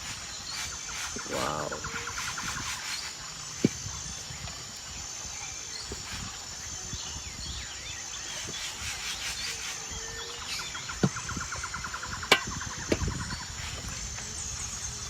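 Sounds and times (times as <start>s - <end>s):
birds chirping: 0.0s - 15.0s
high-pitched insect drone: 0.0s - 15.0s.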